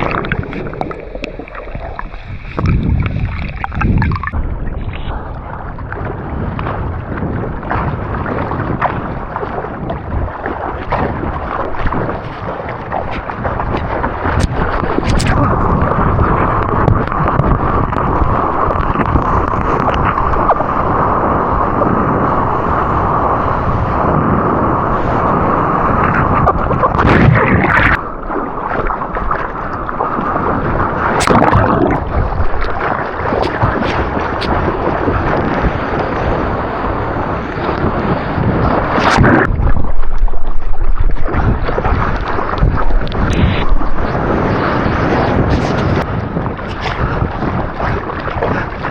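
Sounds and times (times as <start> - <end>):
ocean water rushing and splashing: 0.0 - 48.9
wind buffeting microphone: 0.0 - 48.9.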